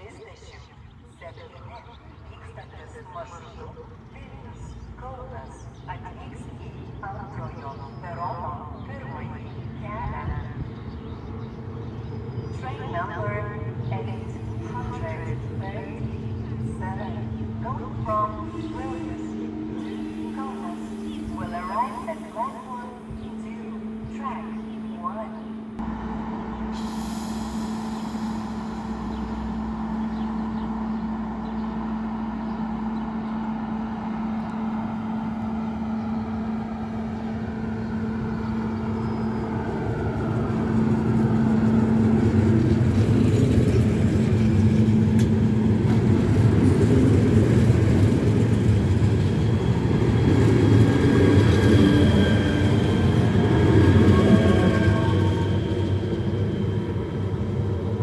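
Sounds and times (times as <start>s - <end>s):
train hum: 0.0s - 58.0s
wheels rumbling on rails: 3.7s - 58.0s
train whining tones: 11.2s - 58.0s.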